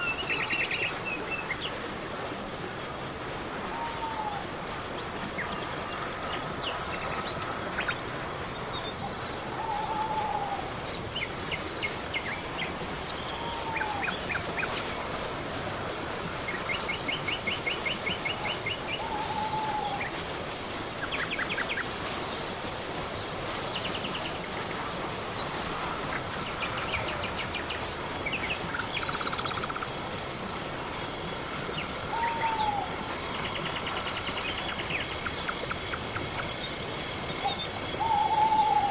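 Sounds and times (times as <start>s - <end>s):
crickets chirping: 0.0s - 38.9s
insect trills: 0.0s - 38.9s.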